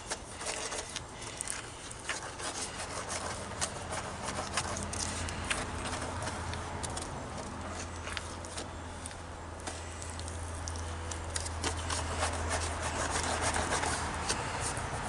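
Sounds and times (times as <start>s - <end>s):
trowel scraping cement: 0.0s - 9.0s, 10.7s - 15.0s
steady low hum: 0.0s - 15.0s.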